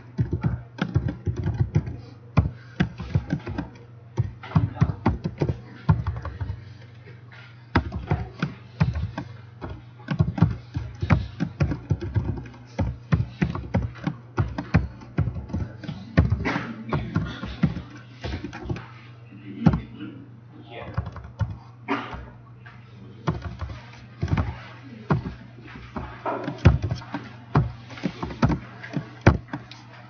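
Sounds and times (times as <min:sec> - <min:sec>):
computer keyboard keys clicking: 0:00.0 - 0:06.6, 0:07.7 - 0:18.8, 0:20.9 - 0:21.6, 0:23.2 - 0:29.8
steady low hum: 0:00.0 - 0:30.0.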